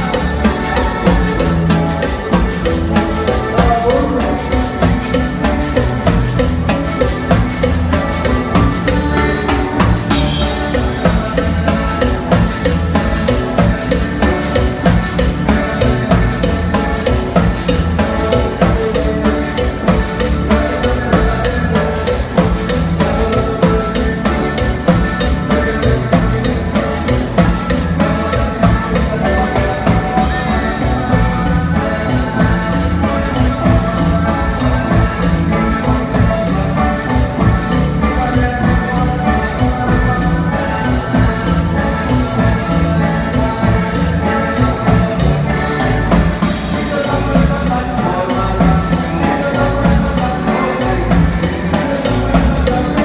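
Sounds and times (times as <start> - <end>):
congas and timbales beat: 0.0 - 53.0
live band playing dance music: 0.0 - 53.0.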